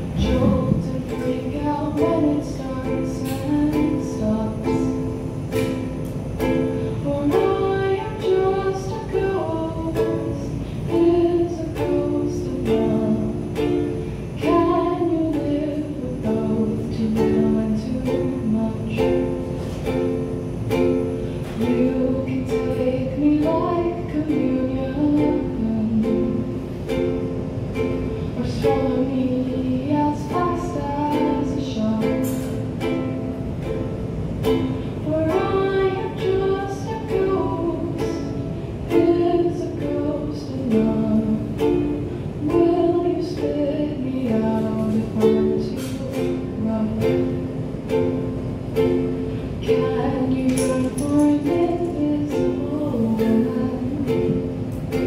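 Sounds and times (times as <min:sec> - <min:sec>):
person singing: 0:00.0 - 0:05.8, 0:06.4 - 0:27.0, 0:27.8 - 0:33.8, 0:34.4 - 0:48.0, 0:49.6 - 0:55.0
ukulele strumming: 0:00.0 - 0:55.0.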